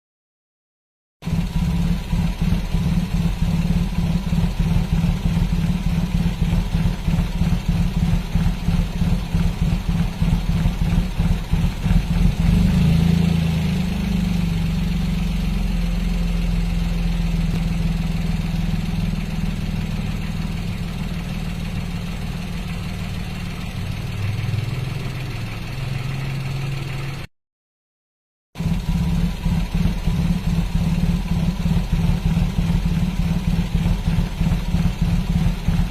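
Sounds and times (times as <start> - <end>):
car engine running rough: 1.2 - 27.3, 28.6 - 35.9.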